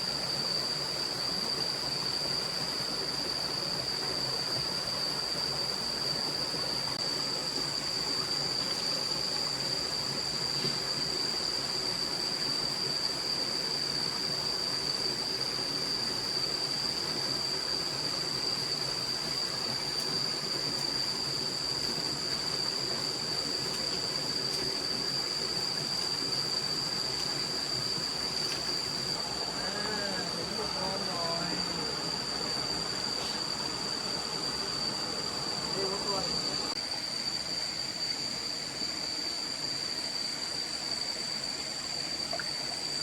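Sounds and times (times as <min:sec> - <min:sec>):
forest stream rushing: 0:00.0 - 0:43.0
high-pitched whine: 0:00.0 - 0:43.0.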